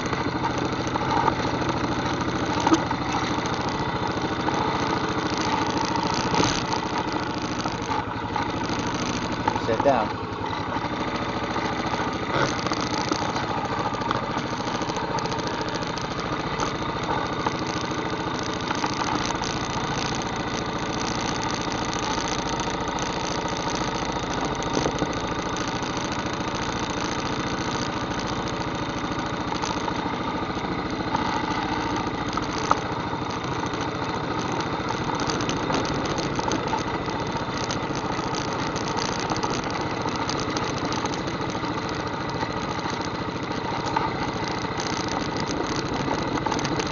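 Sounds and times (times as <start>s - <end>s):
atv engine running at low speed: 0.0s - 46.9s.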